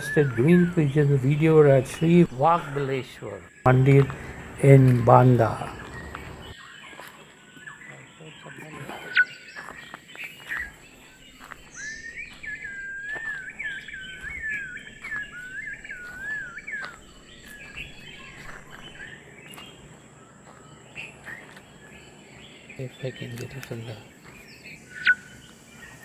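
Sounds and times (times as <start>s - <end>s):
bird chirps: 0.0s - 26.0s
wavering whistled birdsong: 0.0s - 26.0s.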